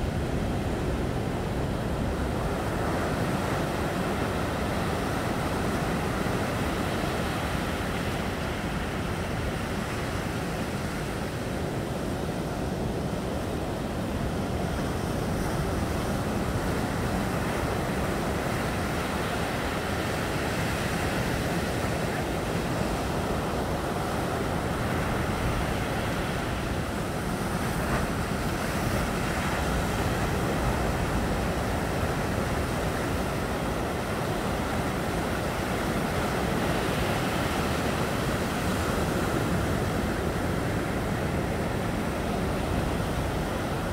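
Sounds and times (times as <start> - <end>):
ocean surf breaking: 0.0 - 43.9.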